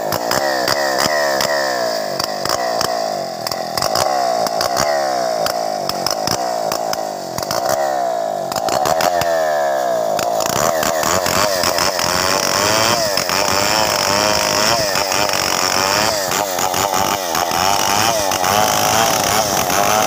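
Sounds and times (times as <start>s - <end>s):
chainsaw cutting timber: 0.0s - 20.0s.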